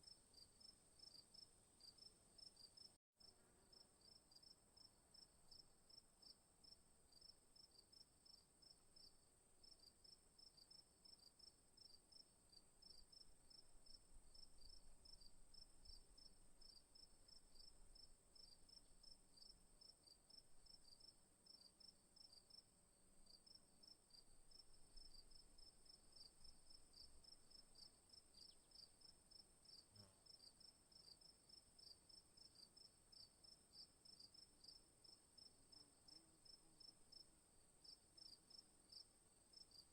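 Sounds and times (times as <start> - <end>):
faint crickets chirping: 0.0 - 39.9.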